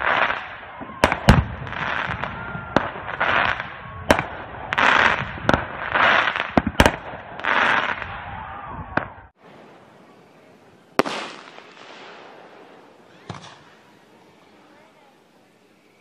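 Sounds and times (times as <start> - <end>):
fireworks crackling hiss: 0.0 - 8.1, 9.3 - 16.0
fireworks bangs: 0.0 - 14.7.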